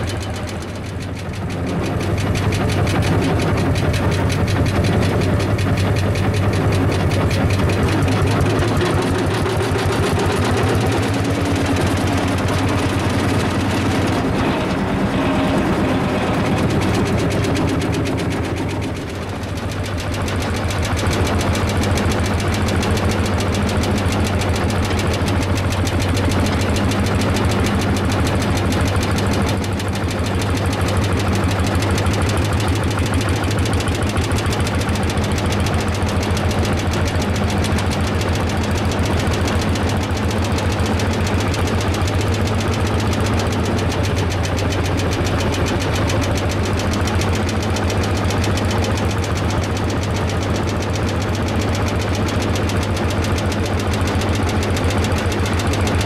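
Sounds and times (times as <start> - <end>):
tractor engine knocking: 0.0 - 56.0.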